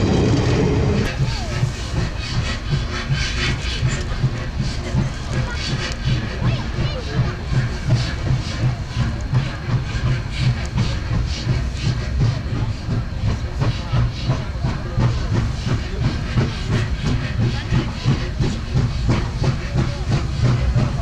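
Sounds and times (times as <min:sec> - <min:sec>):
steam hissing: 0:00.0 - 0:21.0
steam locomotive chuffing: 0:00.0 - 0:21.0.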